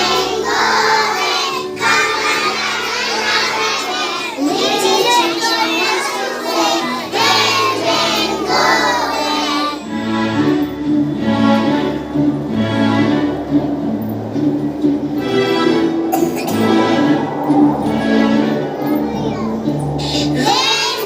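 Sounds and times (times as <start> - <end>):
children singing together: 0.0 - 10.4, 11.1 - 21.0
backing music: 0.0 - 21.0.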